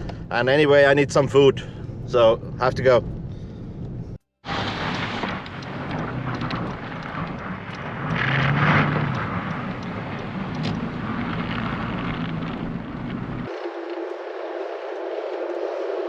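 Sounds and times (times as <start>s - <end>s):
car engine and tyre noise on snow: 0.0s - 16.0s.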